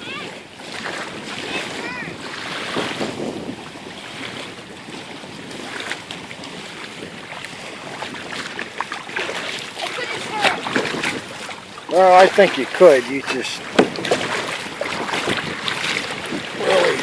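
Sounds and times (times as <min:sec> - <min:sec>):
water lapping: 0:00.0 - 0:17.0
wind buffeting microphone: 0:00.0 - 0:17.0.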